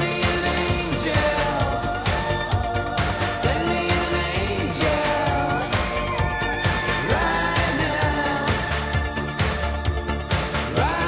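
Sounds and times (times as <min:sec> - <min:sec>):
steady drum beat: 0:00.0 - 0:11.0.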